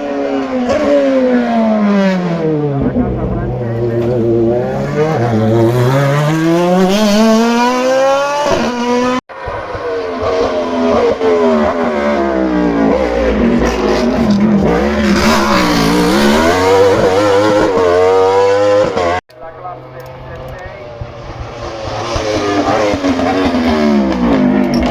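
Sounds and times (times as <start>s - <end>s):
race car engine accelerating: 0.0s - 24.9s.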